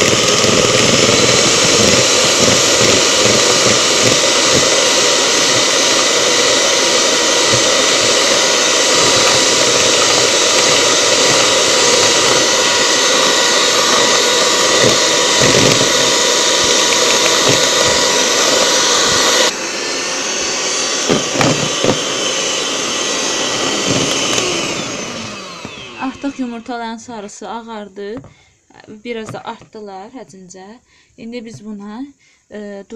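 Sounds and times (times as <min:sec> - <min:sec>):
electric hand mixer whisking: 0:00.0 - 0:27.4, 0:29.2 - 0:29.7.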